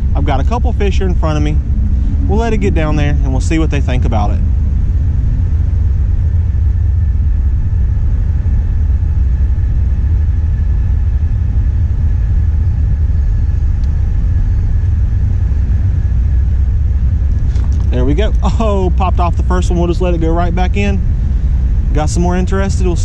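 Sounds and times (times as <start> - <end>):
loud low outdoor rumble: 0.0 - 23.0.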